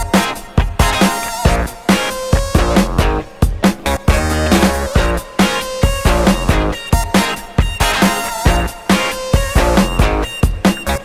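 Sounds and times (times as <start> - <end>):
funky electronic music: 0.0 - 11.0.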